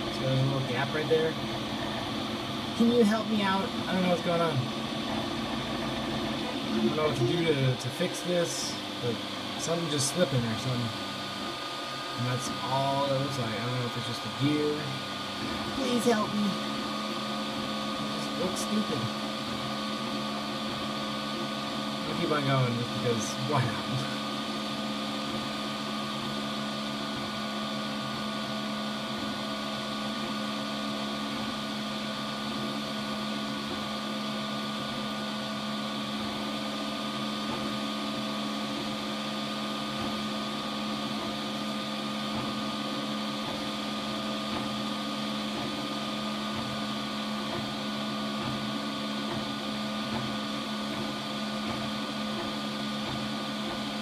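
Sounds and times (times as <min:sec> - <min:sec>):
three d printer whirring hum: 0:00.0 - 0:54.0.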